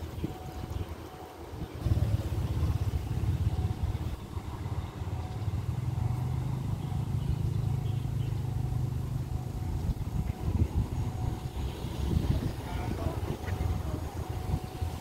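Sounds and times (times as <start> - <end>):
low engine drone: 0.0 - 15.0
wind buffeting microphone: 0.0 - 15.0.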